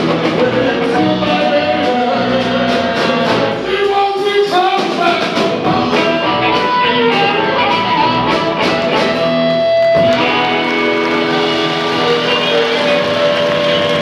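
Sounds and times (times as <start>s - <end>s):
drums: 0.0s - 14.0s
electric guitars: 0.0s - 14.0s.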